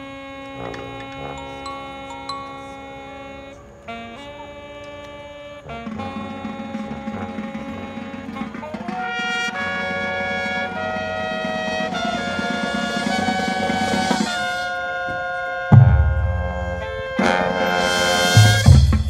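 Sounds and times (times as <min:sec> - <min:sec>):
brass band playing held chords: 0:00.0 - 0:19.0.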